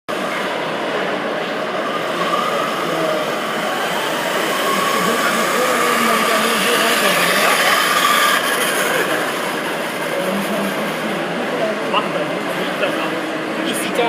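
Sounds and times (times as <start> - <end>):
indistinct voices: 0.1 - 14.0.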